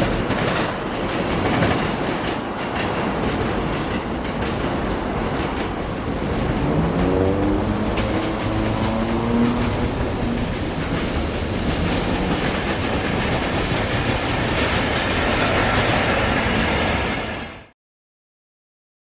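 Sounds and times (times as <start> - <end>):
train wheels clattering over rail joints: 0.0 - 16.3.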